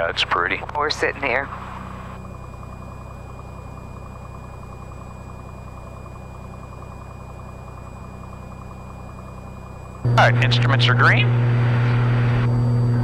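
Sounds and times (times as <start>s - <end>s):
faint high whine: 0.0s - 13.0s
propeller plane engine idling: 0.0s - 13.0s.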